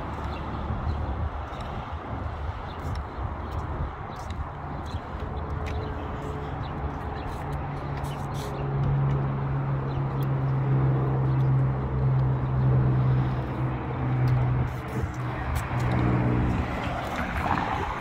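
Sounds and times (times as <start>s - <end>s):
city noise: 0.0s - 18.0s.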